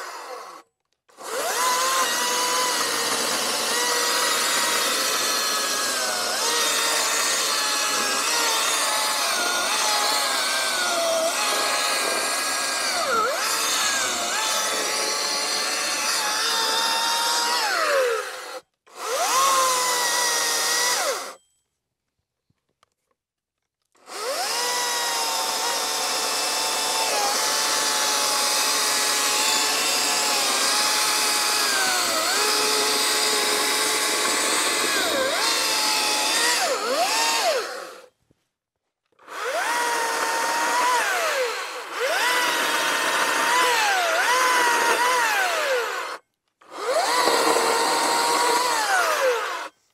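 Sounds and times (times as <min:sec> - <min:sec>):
electric chainsaw cutting wood: 0:00.0 - 0:21.4, 0:24.0 - 0:38.1, 0:39.2 - 0:49.8.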